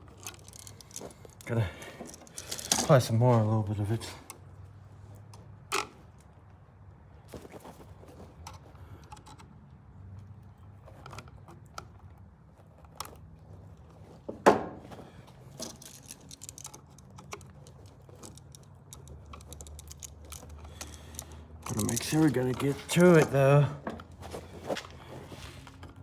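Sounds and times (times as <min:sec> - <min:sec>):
small clicks and rattles of tools: 0:00.0 - 0:06.4, 0:08.4 - 0:26.0.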